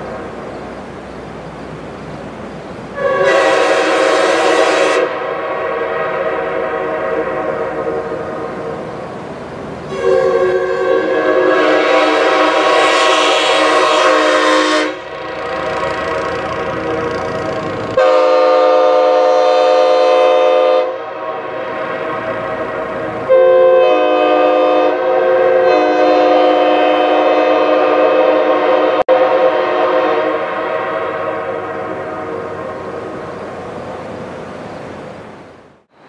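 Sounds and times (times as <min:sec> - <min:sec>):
horn echo off mountains: 0:03.0 - 0:08.8, 0:09.9 - 0:33.1
train horn chord blasts: 0:03.0 - 0:08.9, 0:09.9 - 0:33.1.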